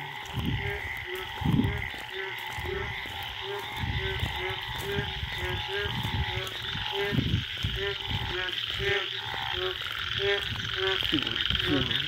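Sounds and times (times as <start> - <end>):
deep frog croaks: 0.0 - 12.0
frogs croaking: 0.0 - 12.0
high trilling frog chorus: 0.0 - 12.0.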